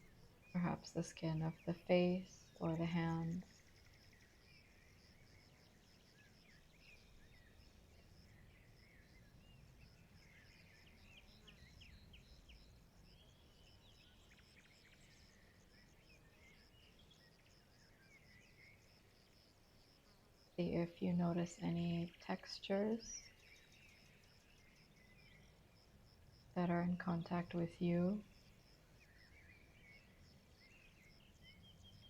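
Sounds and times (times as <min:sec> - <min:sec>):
birdsong chirps and trills: 0:00.0 - 0:32.0.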